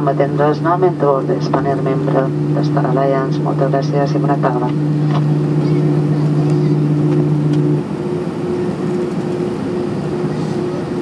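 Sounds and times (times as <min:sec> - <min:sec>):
aircraft engine and airflow noise: 0:00.0 - 0:11.0
higher steady tone: 0:00.0 - 0:11.0
low hum: 0:00.0 - 0:11.0.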